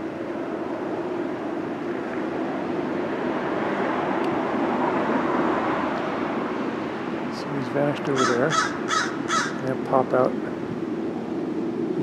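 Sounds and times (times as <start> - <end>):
distant motor traffic rush: 0.0 - 12.0.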